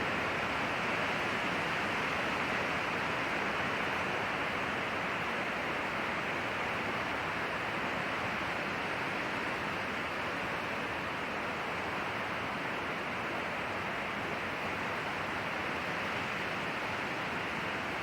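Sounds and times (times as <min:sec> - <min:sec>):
wind through pine trees: 0:00.0 - 0:18.0.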